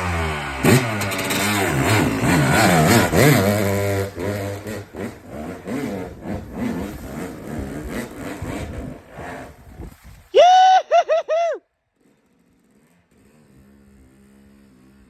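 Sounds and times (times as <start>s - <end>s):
dirt bike engine revving: 0.0s - 10.3s, 12.0s - 15.0s.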